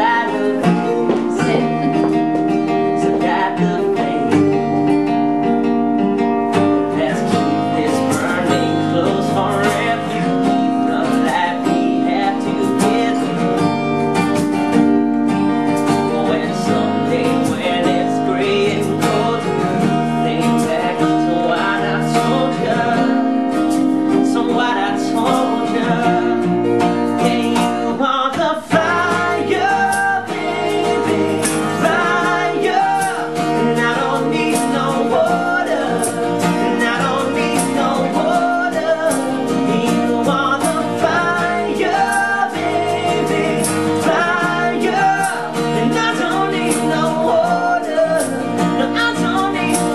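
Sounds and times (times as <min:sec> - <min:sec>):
person singing: 0:00.0 - 0:05.0, 0:06.6 - 0:13.8, 0:15.9 - 0:49.9
guitar playing: 0:00.0 - 0:49.9.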